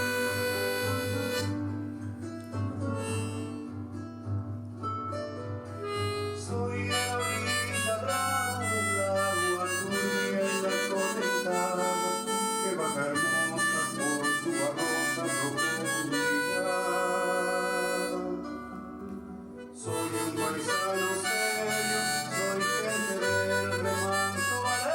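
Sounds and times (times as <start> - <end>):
harmonica playing slow melody: 0.0 - 4.1, 5.7 - 19.0, 19.6 - 24.9
musical accompaniment: 0.0 - 24.9.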